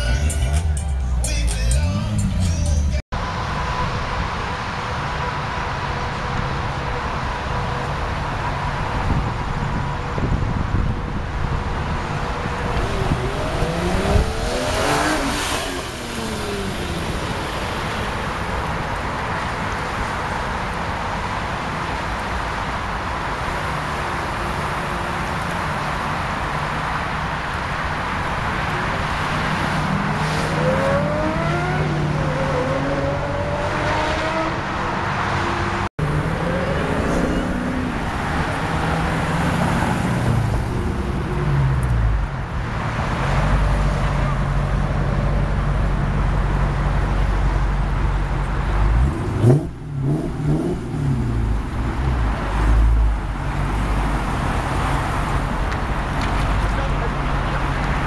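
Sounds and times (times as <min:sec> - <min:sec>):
car engine low rumble: 0:00.0 - 0:58.0
car engines revving and accelerating: 0:01.9 - 0:58.0.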